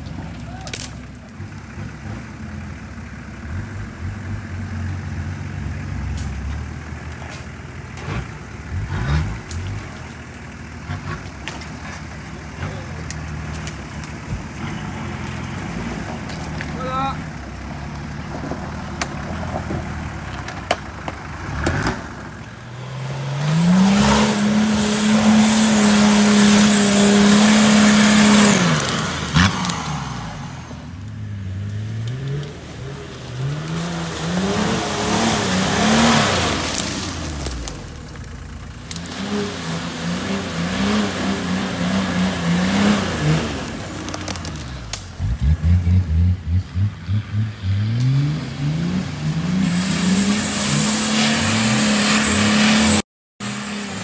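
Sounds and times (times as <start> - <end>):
off-road engines revving: 0.0 - 54.0
tyres churning through mud: 0.0 - 54.0.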